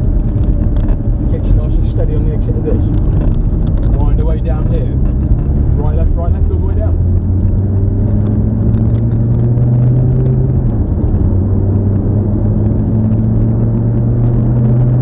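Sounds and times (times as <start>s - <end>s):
car engine running steadily: 0.0s - 15.0s
road rumble: 0.0s - 15.0s.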